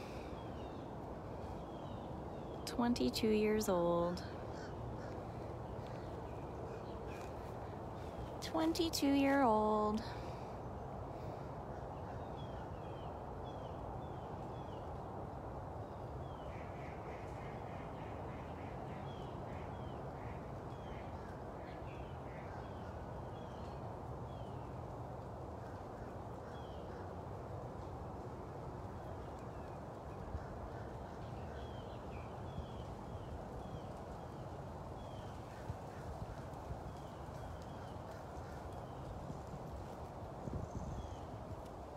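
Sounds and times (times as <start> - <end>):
low outdoor background noise: 0.0 - 41.9.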